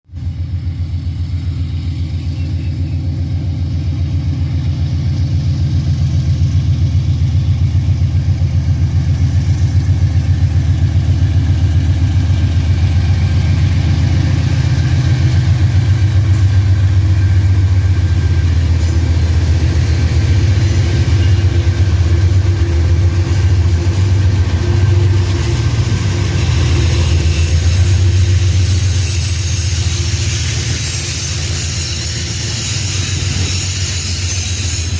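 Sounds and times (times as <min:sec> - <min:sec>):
diesel locomotive engine drone: 0:00.1 - 0:34.9.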